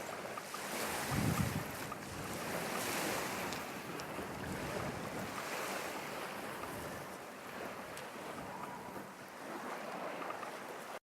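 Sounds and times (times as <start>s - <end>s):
waves washing onto beach: 0.0s - 11.0s
wind: 0.0s - 11.0s.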